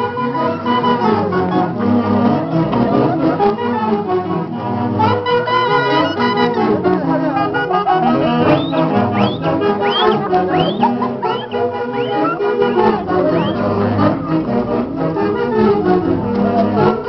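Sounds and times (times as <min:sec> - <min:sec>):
saxophone-led band playing dance tune: 0:00.0 - 0:17.0.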